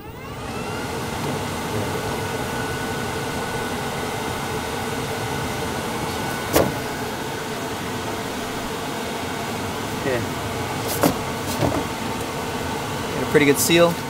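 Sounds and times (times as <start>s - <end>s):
blower whining: 0.0s - 14.0s.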